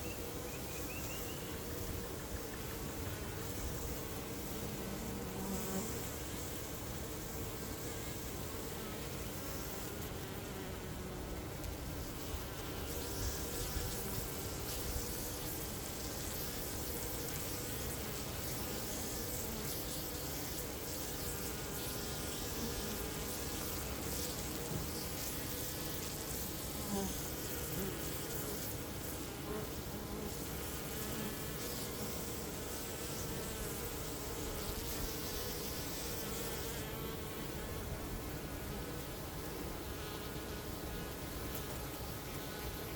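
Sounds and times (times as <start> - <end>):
honeybees buzzing: 0.0 - 42.9.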